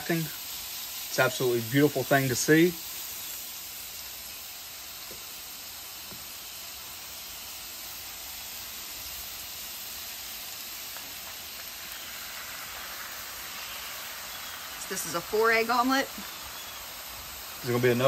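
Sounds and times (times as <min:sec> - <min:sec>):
butter sizzling on a griddle: 0:00.0 - 0:18.0
eggs poured into sizzling butter: 0:00.0 - 0:18.0.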